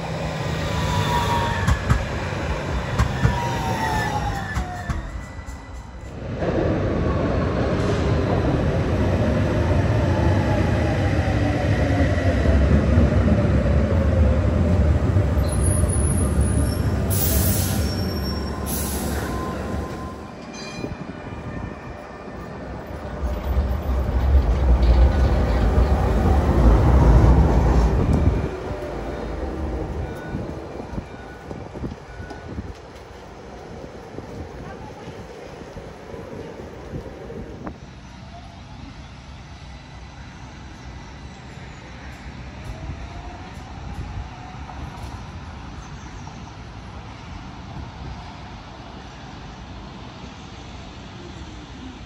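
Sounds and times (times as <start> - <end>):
tram brakes whining: 0.0 - 46.9
rumble of tram wheels: 0.0 - 52.0.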